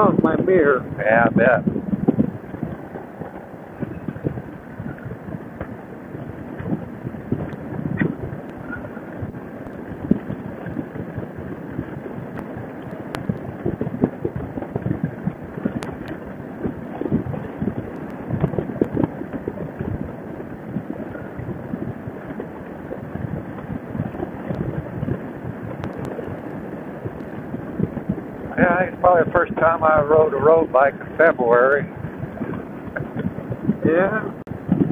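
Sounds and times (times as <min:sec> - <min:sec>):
wind buffeting helmet microphone: 0:00.0 - 0:34.9.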